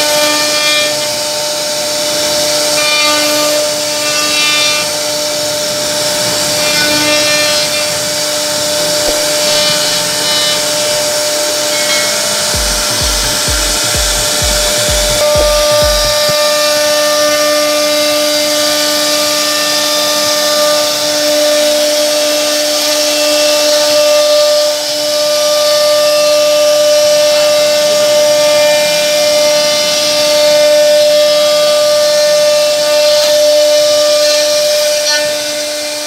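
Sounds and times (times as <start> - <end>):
rasp of wood being cut: 0.0 - 36.0
router spindle whine: 0.0 - 36.0.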